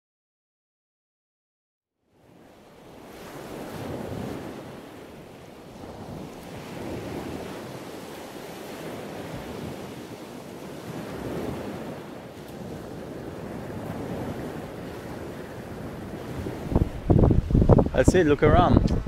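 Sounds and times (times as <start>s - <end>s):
sea waves: 2.1s - 19.0s
wind rumbling on microphone: 2.1s - 19.0s.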